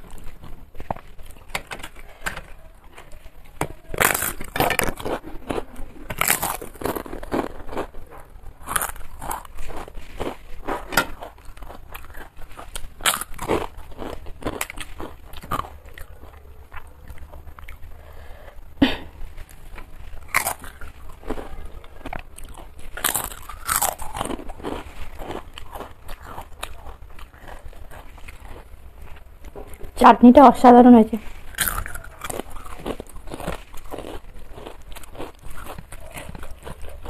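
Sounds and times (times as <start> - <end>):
chewing crunchy food: 0.0 - 30.0, 31.2 - 37.0.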